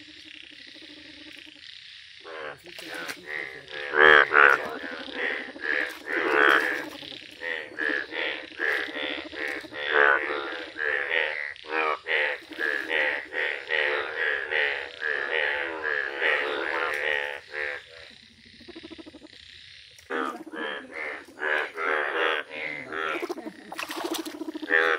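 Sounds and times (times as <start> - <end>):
frogs croaking: 0.0 - 24.9.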